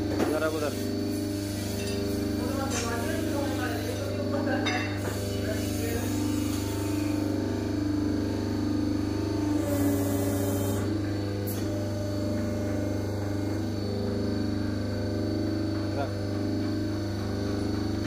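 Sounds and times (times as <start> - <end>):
hydraulic press humming: 0.0 - 18.0.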